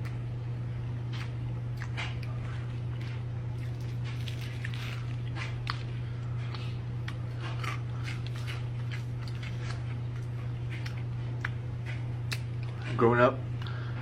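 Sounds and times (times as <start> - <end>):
low electrical hum: 0.0 - 14.0
wet chewing and smacking: 1.0 - 12.9.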